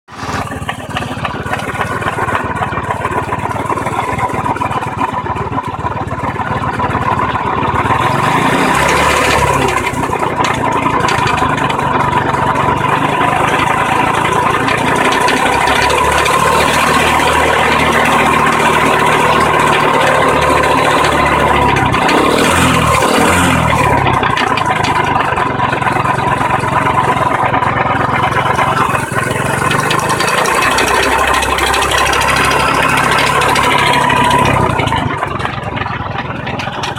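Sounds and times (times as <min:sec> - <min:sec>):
engine revving with knocking noise: 0:00.1 - 0:36.9.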